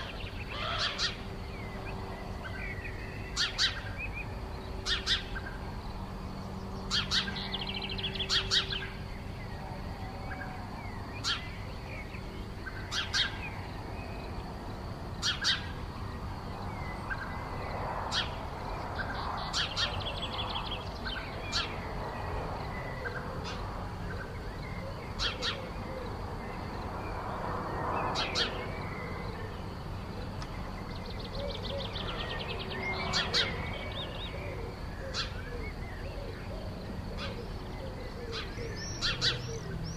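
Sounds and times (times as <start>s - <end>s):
birds calling with rattling trills: 0.0s - 39.9s.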